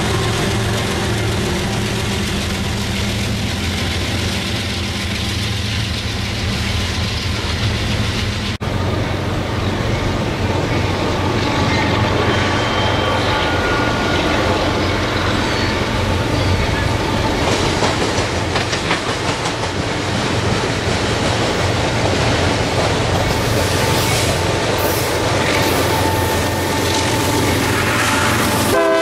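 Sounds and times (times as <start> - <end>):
diesel locomotive rumble: 0.0 - 29.0
train wheels clicking on rails: 0.0 - 29.0.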